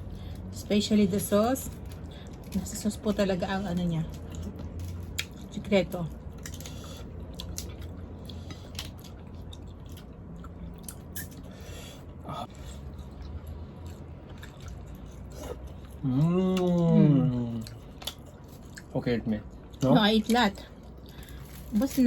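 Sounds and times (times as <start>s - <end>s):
chewing and biting: 1.4s - 22.0s.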